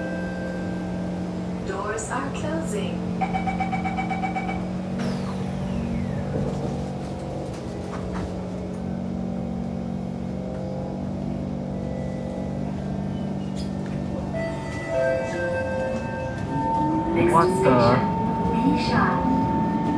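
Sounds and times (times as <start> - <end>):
electric train motor hum and whine: 0.0 - 19.9.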